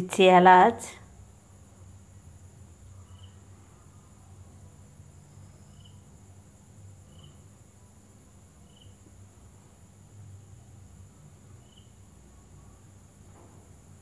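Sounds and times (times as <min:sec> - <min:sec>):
faint hum and hiss: 0:00.0 - 0:14.0.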